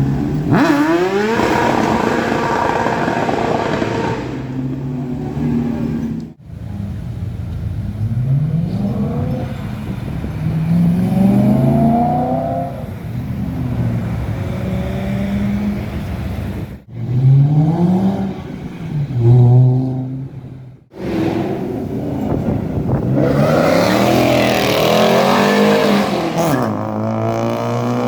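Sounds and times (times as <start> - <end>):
cars accelerating hard: 0.0 - 6.4, 7.7 - 28.0.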